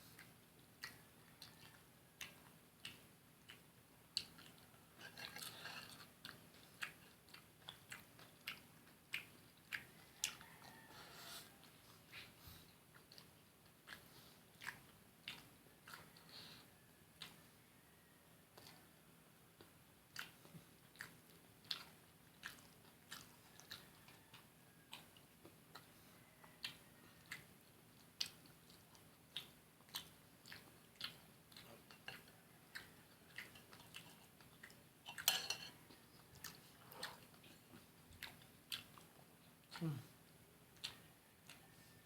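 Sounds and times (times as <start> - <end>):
wet chewing and crunching: 0.0 - 18.9, 19.5 - 42.0.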